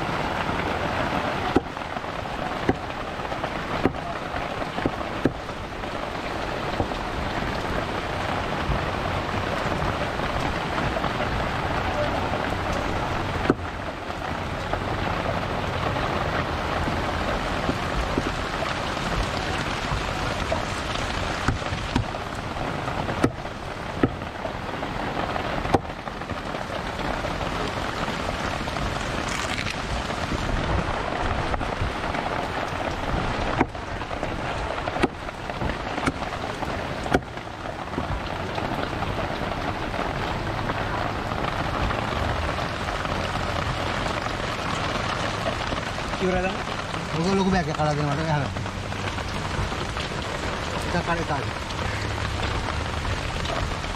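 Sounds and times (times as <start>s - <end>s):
rain hiss: 0.0s - 53.9s.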